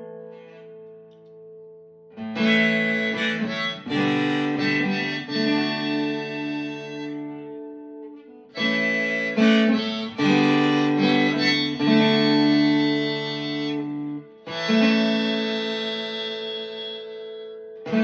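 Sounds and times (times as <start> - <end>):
acoustic guitar strummed chords: 0.0 - 18.0
harmonica: 2.3 - 18.0.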